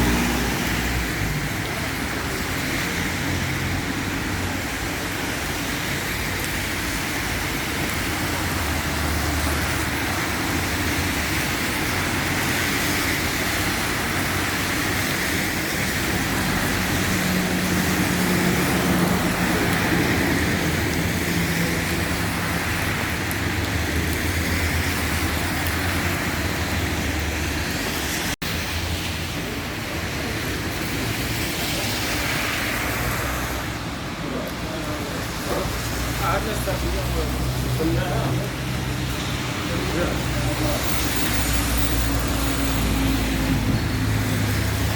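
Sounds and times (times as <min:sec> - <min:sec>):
road traffic in rain: 0:00.0 - 0:44.9.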